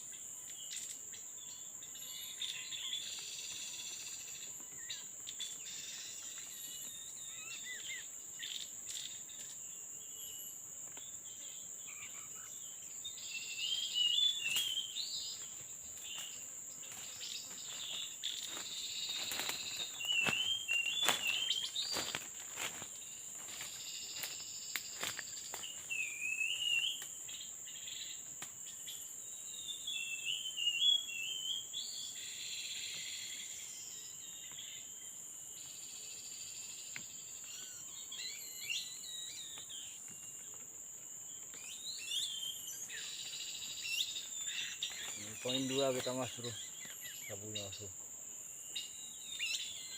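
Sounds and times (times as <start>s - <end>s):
insects droning: 0.0s - 49.9s.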